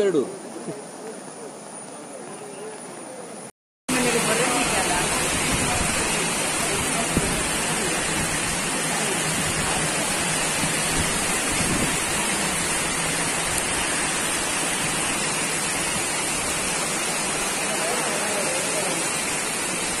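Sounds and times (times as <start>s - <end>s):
torrential rain: 3.9s - 20.0s.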